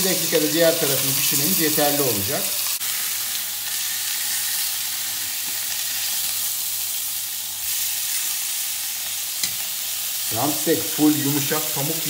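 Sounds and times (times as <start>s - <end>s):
steaks sizzling in a grill pan: 0.0s - 12.0s.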